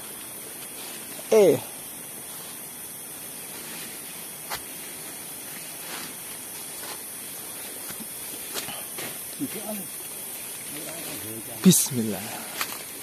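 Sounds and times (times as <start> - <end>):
insect chorus hiss: 0.0 - 13.0.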